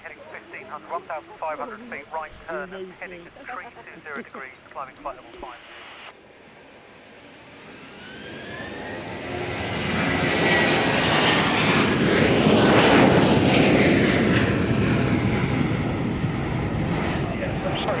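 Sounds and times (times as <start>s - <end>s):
aircraft engine passing: 0.0s - 18.0s.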